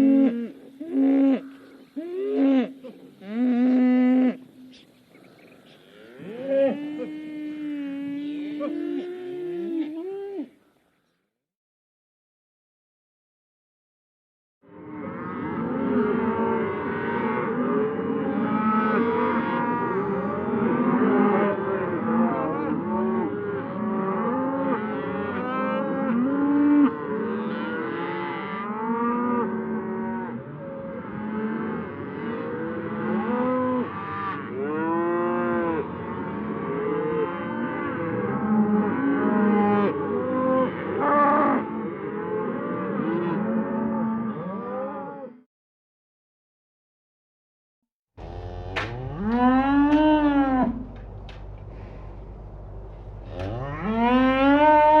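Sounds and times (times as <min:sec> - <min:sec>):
cattle mooing: 0:00.0 - 0:04.8, 0:05.7 - 0:10.5, 0:14.7 - 0:45.4, 0:48.2 - 0:51.1, 0:53.2 - 0:55.0.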